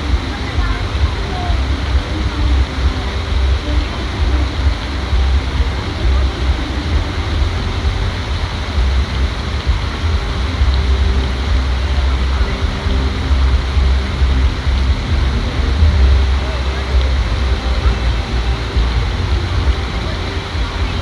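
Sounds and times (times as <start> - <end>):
faint voices: 0.0 - 21.0
fluctuating low rumble: 0.0 - 21.0.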